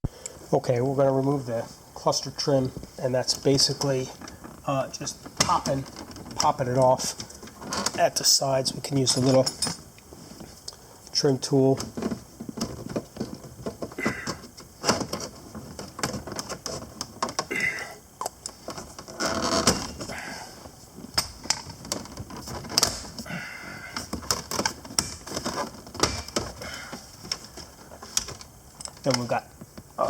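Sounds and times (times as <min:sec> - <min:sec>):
rustling and scraping: 0:00.4 - 0:30.0.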